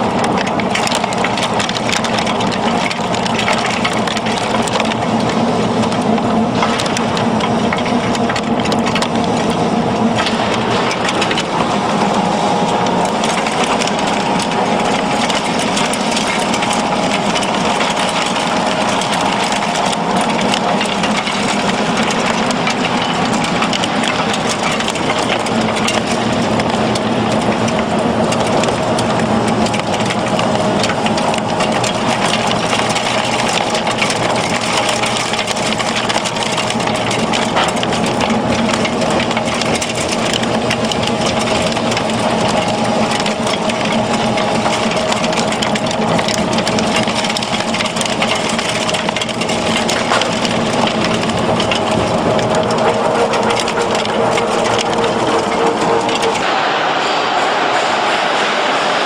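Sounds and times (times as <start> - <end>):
machinery humming and rattling: 0.0 - 59.0.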